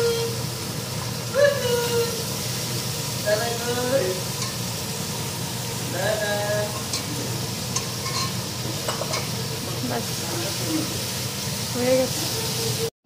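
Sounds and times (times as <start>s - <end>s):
curry sizzling in a pan: 0.0s - 12.9s.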